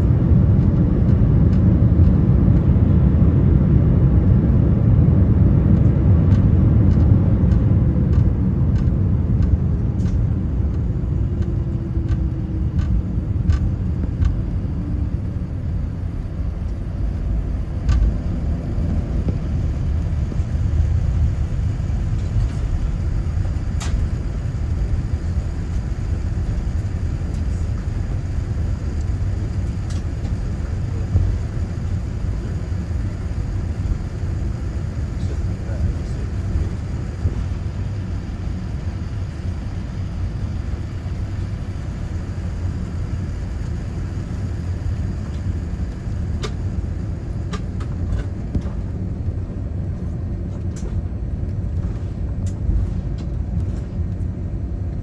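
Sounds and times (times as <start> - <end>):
airliner rumbling on runway: 0.0 - 55.0
jet engine whine falling: 0.0 - 55.0.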